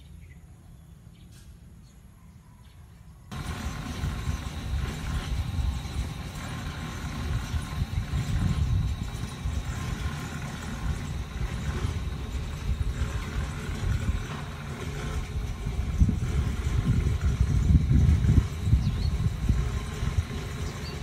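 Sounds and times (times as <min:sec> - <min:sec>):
uneven low rumbling: 0:03.3 - 0:21.0.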